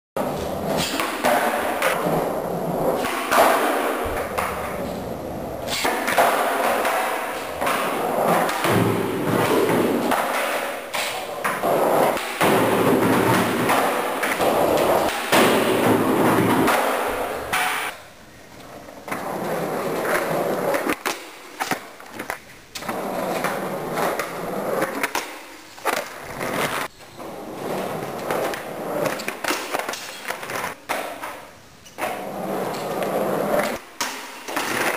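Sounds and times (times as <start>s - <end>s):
skateboard wheels rolling on concrete: 0.2s - 34.9s.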